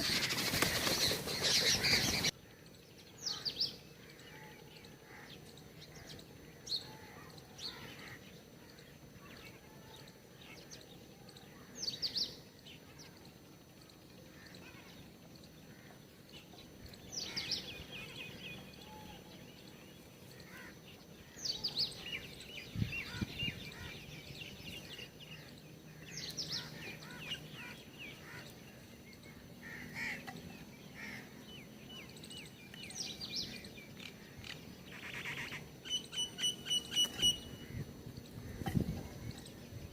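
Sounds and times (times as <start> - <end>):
faint bird chirps: 0.0 - 39.9.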